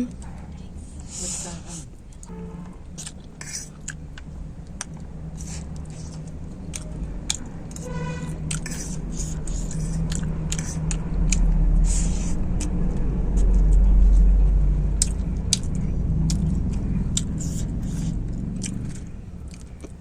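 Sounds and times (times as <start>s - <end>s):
low rumble: 0.0s - 20.0s
person chewing noodles: 1.8s - 14.3s, 14.9s - 20.0s.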